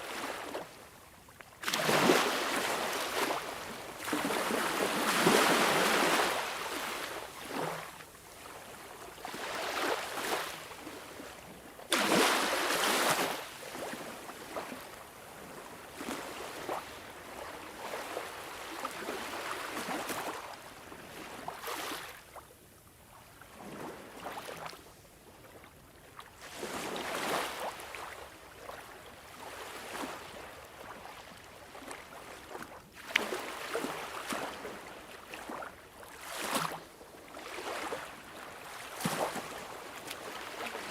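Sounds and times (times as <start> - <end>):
sea waves breaking on shore: 1.6 - 22.2, 26.5 - 40.9.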